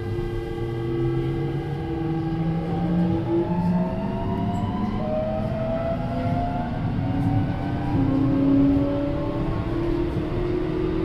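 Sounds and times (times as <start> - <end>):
low rumble of train: 0.0 - 11.0.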